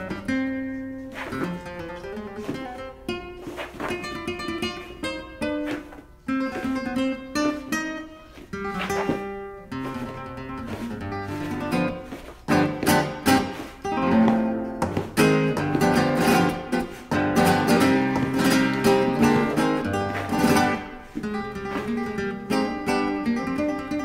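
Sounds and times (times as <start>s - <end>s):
flamenco acoustic guitar: 0.0s - 24.0s.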